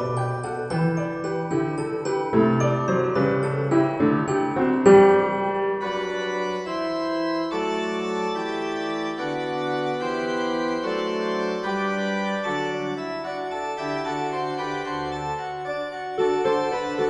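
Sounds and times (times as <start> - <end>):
organ-like keyboard chords: 0.0 - 17.0.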